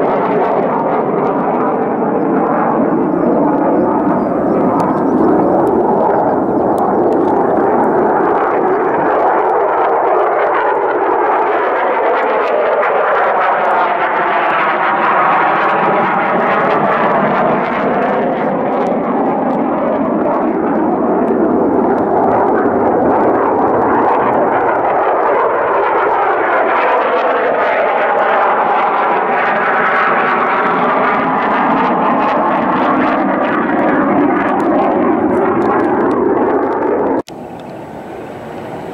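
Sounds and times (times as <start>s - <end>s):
jet engine flying past: 0.0s - 38.9s.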